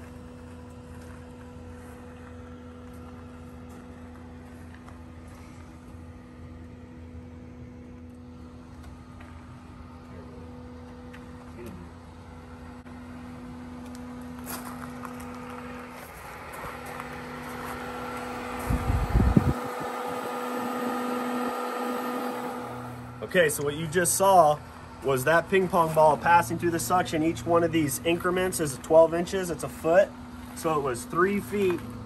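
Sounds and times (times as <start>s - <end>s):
pool pump humming: 0.0s - 32.0s.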